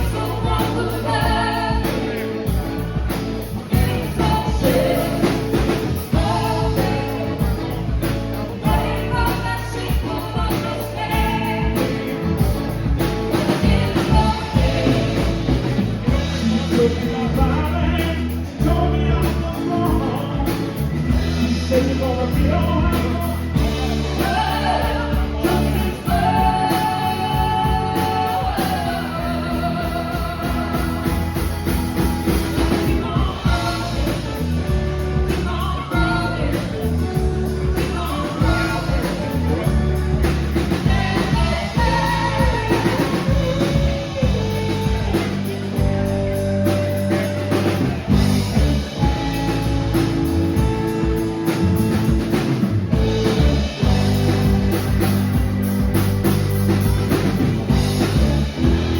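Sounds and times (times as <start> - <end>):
bass guitar: 0.0 - 58.9
drum kit: 0.0 - 58.9
electric guitar: 0.0 - 58.9
sustained lead melody: 0.0 - 58.9.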